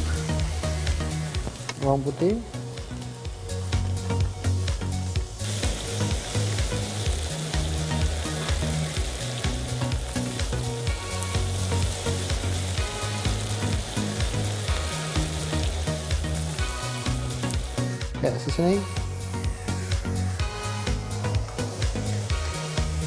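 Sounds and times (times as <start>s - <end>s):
onion and garlic sizzling in oil: 0.0s - 23.0s.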